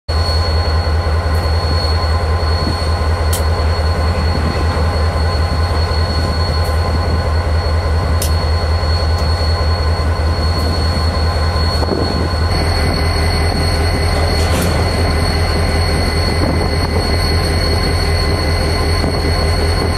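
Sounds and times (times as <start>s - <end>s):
diesel locomotive engine rumble: 0.1s - 19.9s
high thin whine: 2.7s - 19.9s.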